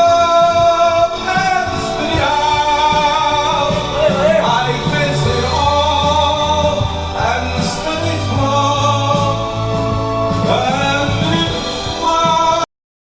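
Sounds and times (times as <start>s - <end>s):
bass: 0.0s - 12.7s
pop song with singing: 0.0s - 12.7s.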